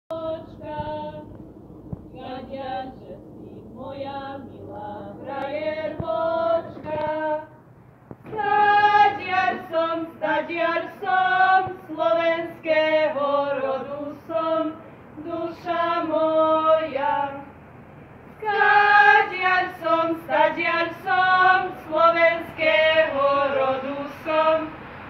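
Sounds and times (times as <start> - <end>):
women singing unaccompanied: 0.1 - 7.6, 8.2 - 17.6, 18.3 - 24.9.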